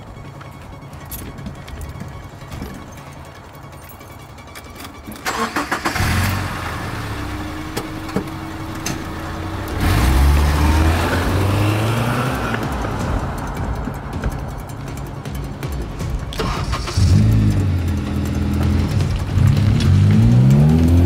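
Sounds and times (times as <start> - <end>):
starter clicks: 0.0 - 6.4, 7.3 - 21.0
car engine running and revving: 0.0 - 21.0.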